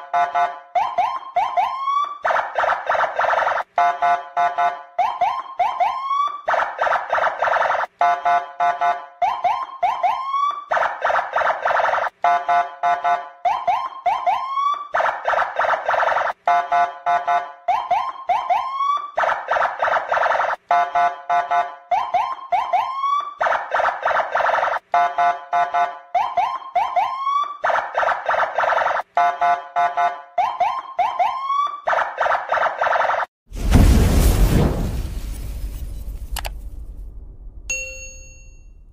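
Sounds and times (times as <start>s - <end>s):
electronic police siren: 0.0s - 33.3s.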